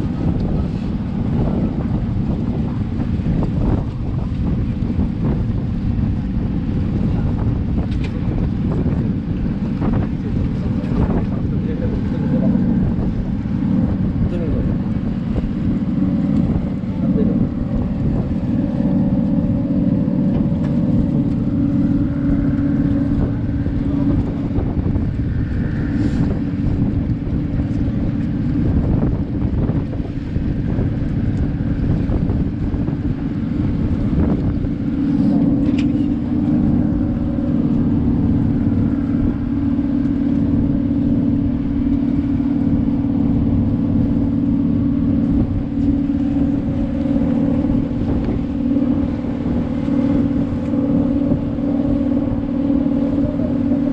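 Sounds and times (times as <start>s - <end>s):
boat engine running: 0.0s - 53.9s
wind buffeting microphone: 0.0s - 53.9s.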